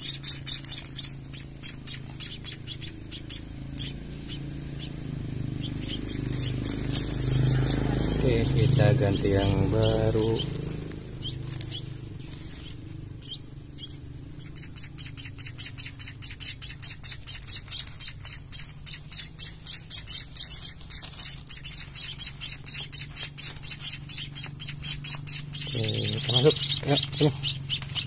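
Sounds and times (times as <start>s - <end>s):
nestling begging chirps: 0.0s - 28.0s.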